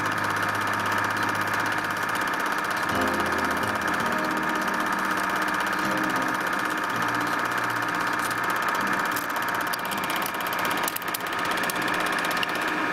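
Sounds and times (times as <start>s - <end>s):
film projector whirring and clattering: 0.0s - 12.9s.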